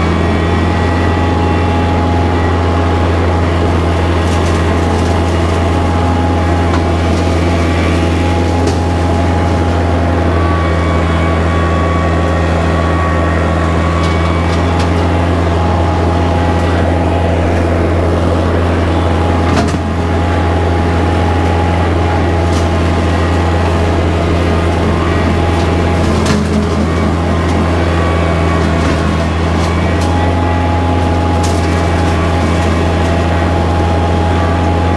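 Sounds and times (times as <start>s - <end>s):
tractor diesel engine humming: 0.0s - 34.9s.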